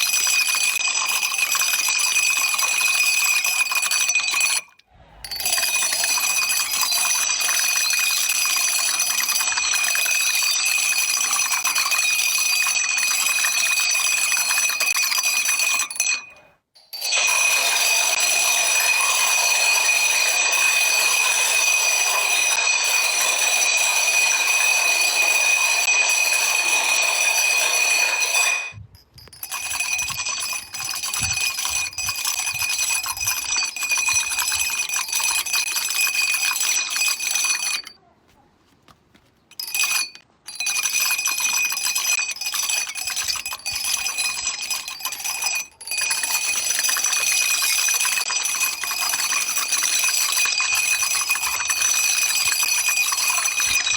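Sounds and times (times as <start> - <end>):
steady ringing tone: 0.0 - 38.0, 39.6 - 53.9.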